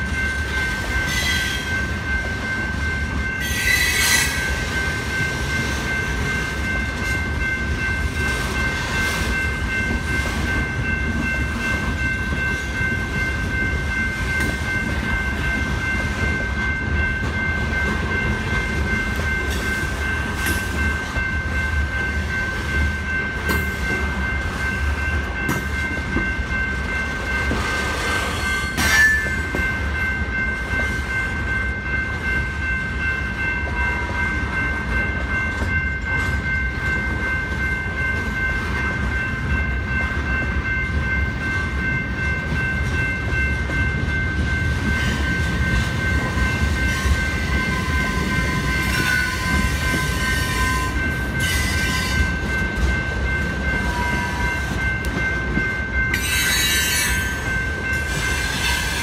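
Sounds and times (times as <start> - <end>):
crossing bells ringing: 0.0 - 59.0
freight train wheels rumbling: 0.0 - 59.0
rail clicks: 0.0 - 59.0.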